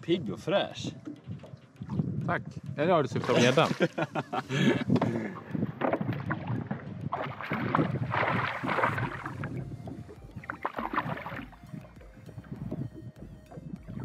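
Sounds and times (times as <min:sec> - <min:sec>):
water sloshing against boat: 0:00.3 - 0:14.0.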